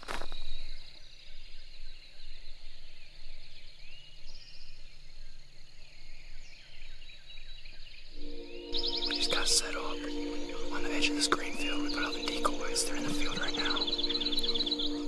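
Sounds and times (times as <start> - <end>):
faint steady background noise: 0.0 - 15.0
songbirds chirping and trilling: 0.2 - 15.0.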